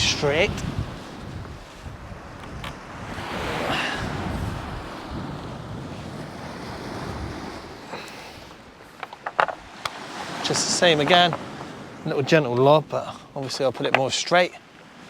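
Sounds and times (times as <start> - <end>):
wind buffeting microphone: 0.0 - 13.6
waves breaking on shore: 0.0 - 15.0.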